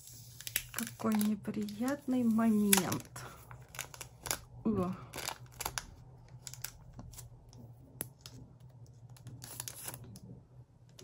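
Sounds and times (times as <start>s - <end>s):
photocards and packaging handled: 0.0s - 4.5s, 5.1s - 10.3s.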